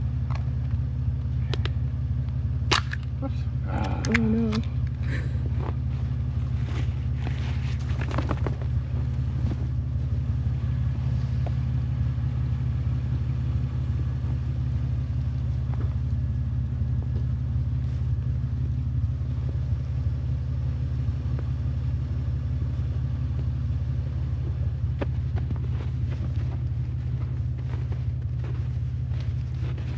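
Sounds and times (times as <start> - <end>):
vehicle engine humming: 0.0 - 29.9.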